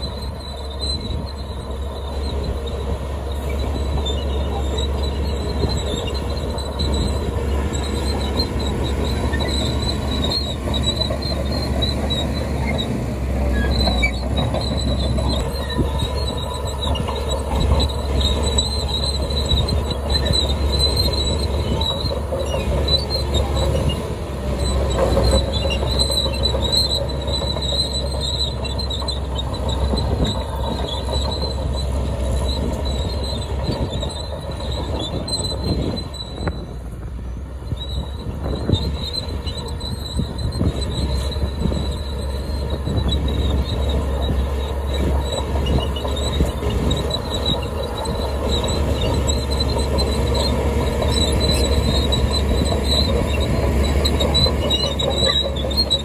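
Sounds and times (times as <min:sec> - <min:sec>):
bulldozer diesel engines under load: 0:00.0 - 0:56.0
steel tracks squealing: 0:00.0 - 0:56.0.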